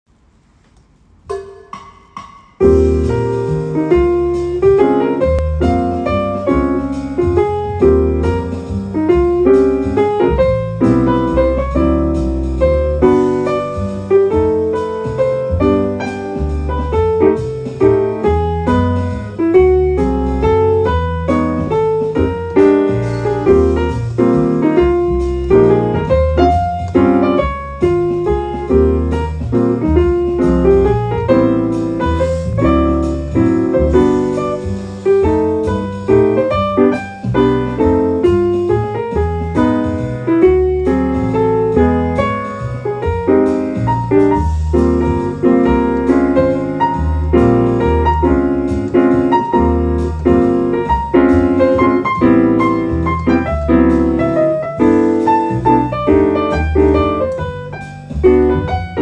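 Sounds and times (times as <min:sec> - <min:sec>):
upright piano playing: 0:01.3 - 0:59.0.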